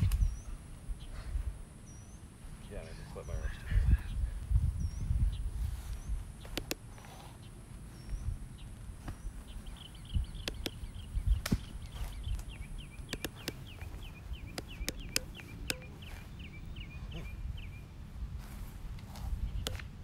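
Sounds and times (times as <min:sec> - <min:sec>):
bird chirping: 0:00.0 - 0:18.0
wind rumble on microphone: 0:00.0 - 0:20.0.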